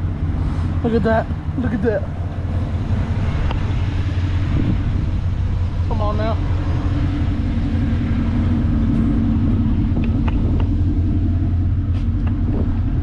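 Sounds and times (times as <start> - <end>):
pickup truck engine rumble: 0.0 - 13.0.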